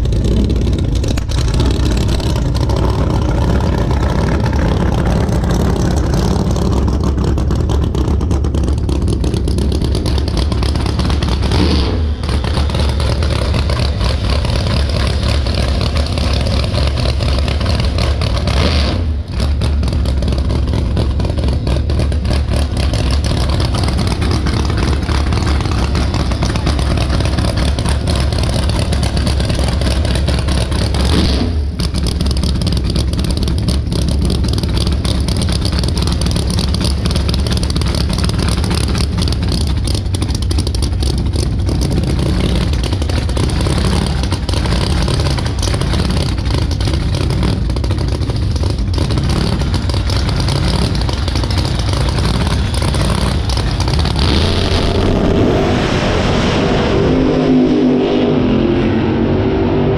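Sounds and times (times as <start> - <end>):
drag race engines rumbling: 0.0 - 59.9.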